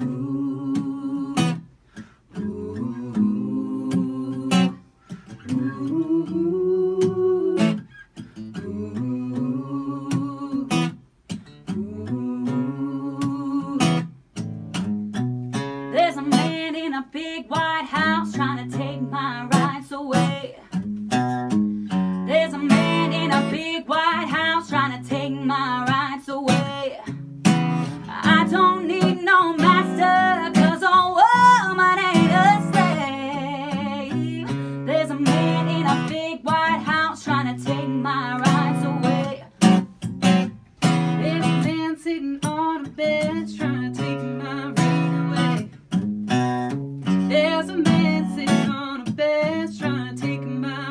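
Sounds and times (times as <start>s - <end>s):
woman singing: 0.0s - 1.7s, 2.4s - 7.9s, 8.5s - 11.0s, 11.6s - 14.2s, 15.9s - 20.8s, 22.2s - 27.2s, 27.8s - 39.8s, 41.1s - 45.8s, 47.1s - 50.9s
acoustic guitar strumming: 0.0s - 50.9s.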